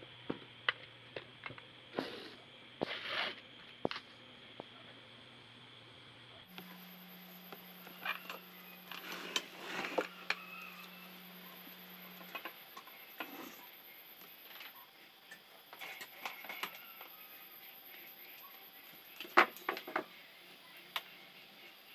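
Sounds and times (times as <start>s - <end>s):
fan motor humming: 0.0s - 21.9s.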